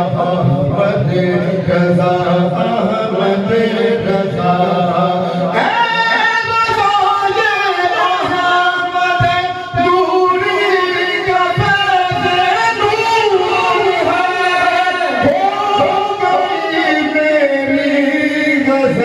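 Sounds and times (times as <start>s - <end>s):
man singing devotional song: 0.0s - 19.0s.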